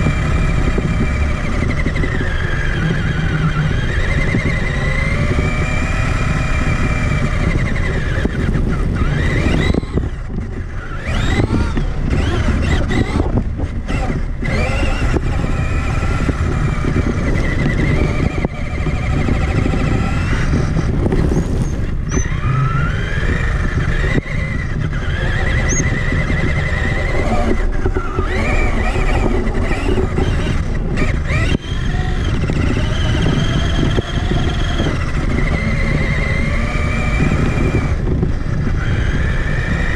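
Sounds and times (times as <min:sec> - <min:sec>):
electric toy truck motor whining: 0:00.0 - 0:39.9
rumble of chassis and tyres: 0:00.0 - 0:39.9.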